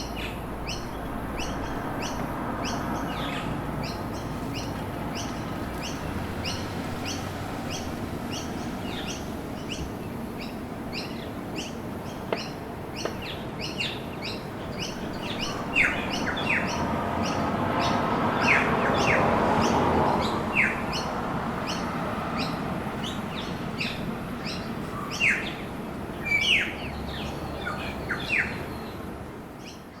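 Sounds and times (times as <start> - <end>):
low hum of city traffic: 0.0 - 30.0
small birds chirping: 0.0 - 30.0.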